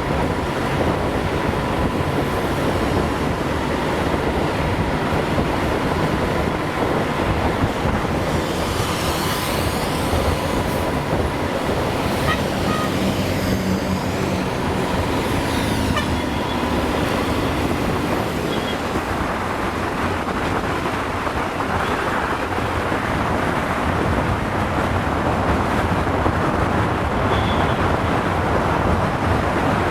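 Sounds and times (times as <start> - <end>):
motorcycle road and wind noise: 0.0 - 29.9
vehicles passing: 0.0 - 29.9.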